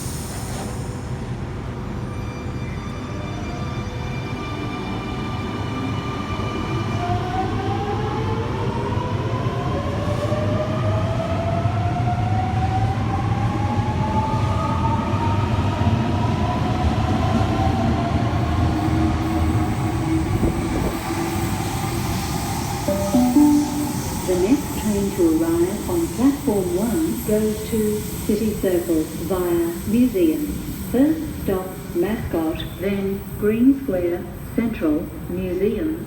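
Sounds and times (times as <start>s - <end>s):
low train rumble: 0.0s - 36.0s.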